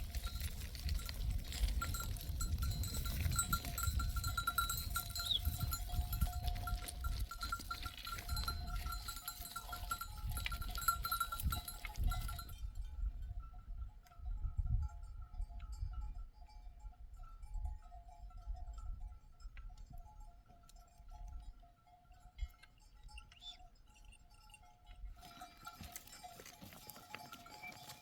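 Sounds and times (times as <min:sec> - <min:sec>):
sheep bells clinking: 0:00.0 - 0:28.0.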